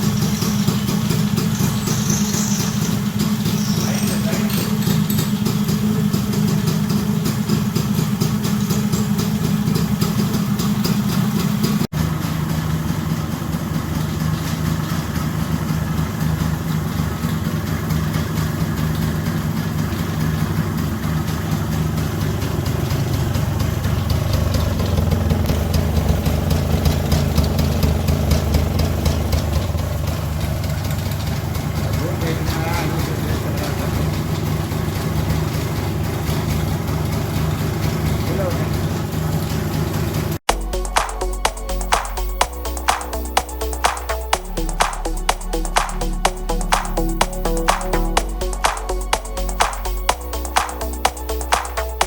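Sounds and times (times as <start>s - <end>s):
two-stroke engine idling: 0.0s - 52.0s.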